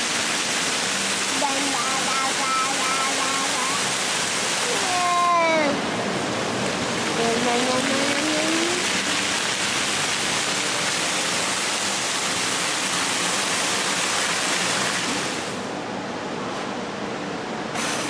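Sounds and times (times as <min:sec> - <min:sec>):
rush of falling water: 0:00.0 - 0:15.8.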